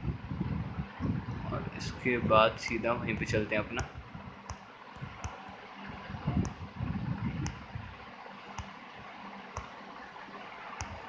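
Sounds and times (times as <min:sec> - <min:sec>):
steady room noise: 0:00.0 - 0:11.0.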